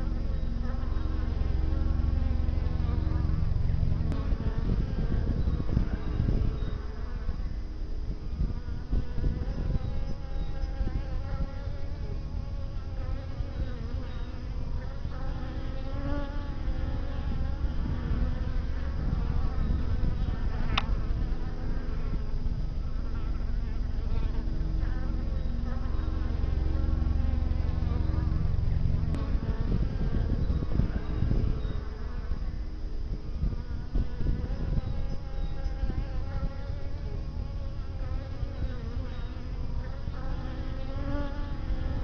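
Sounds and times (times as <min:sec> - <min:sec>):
bees buzzing: 0:00.0 - 0:42.0.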